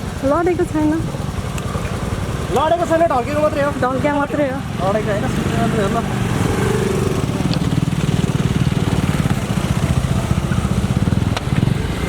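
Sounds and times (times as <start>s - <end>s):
scooter engine puttering: 0.0s - 12.0s.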